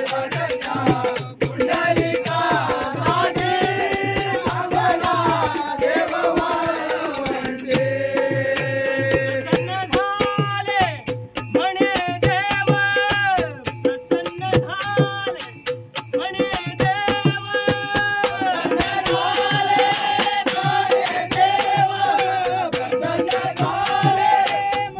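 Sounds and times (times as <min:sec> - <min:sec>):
rhythmic percussion beat: 0:00.0 - 0:24.9.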